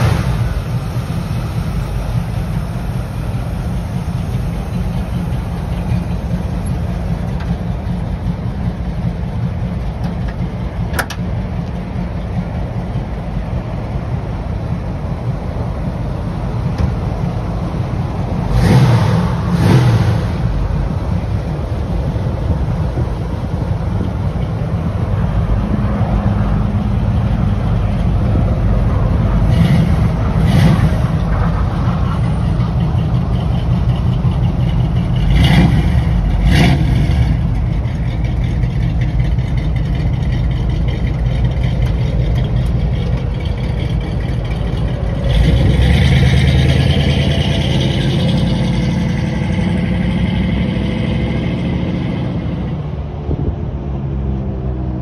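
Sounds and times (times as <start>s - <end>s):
car engine idling: 0.0s - 53.9s
car pulling away: 0.0s - 55.0s.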